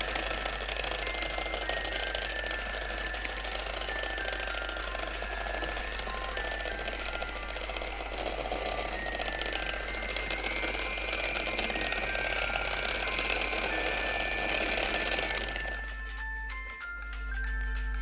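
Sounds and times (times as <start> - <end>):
electric mixer running: 0.0 - 16.2
light background music: 0.0 - 18.0.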